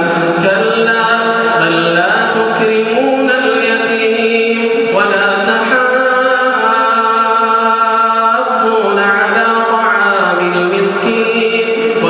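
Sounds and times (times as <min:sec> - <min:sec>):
man reciting in melodic chant: 0:00.0 - 0:12.0.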